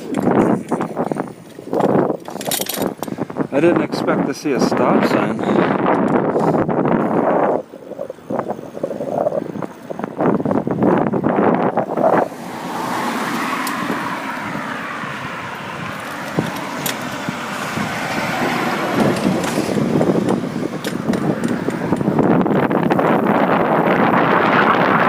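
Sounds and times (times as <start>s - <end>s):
wind buffeting microphone: 0.0s - 25.0s
car passing on road: 4.6s - 25.0s.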